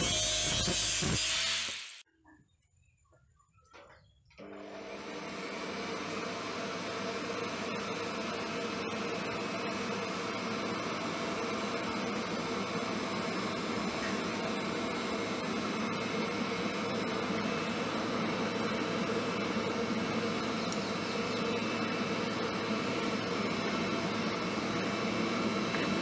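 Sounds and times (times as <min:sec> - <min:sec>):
electric air blower rushing hum: 0:00.0 - 0:02.0, 0:04.4 - 0:26.0.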